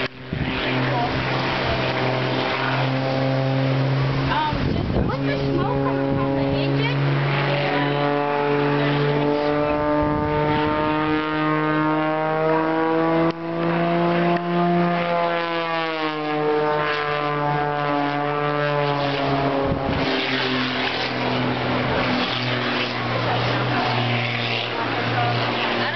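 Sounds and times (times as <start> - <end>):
propeller airplane engine droning: 0.0 - 25.9.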